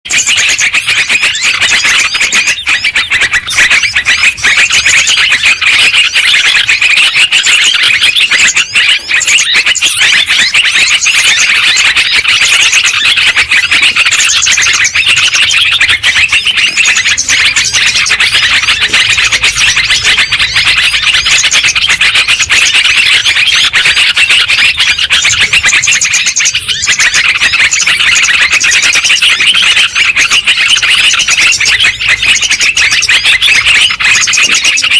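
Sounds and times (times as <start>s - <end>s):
flock of birds chattering: 0.1s - 34.9s.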